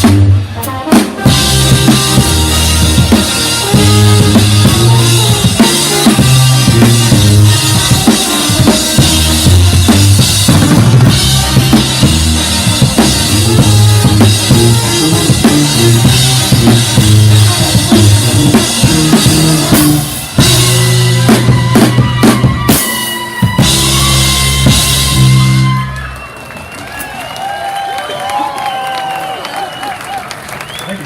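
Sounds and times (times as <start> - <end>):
drum kit beat: 0.0 - 25.9
bass line: 0.0 - 26.1
brass band playing: 0.0 - 26.4.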